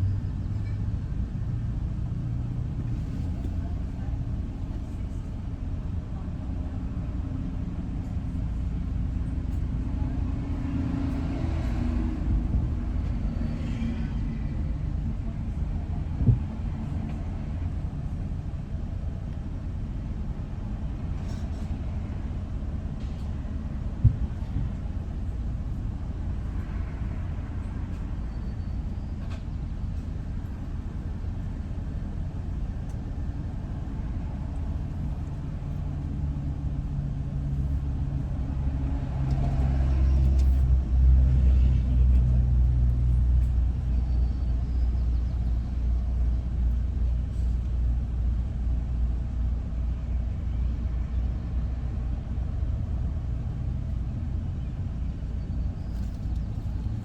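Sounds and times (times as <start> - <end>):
vehicle low rumble: 0.0 - 57.0.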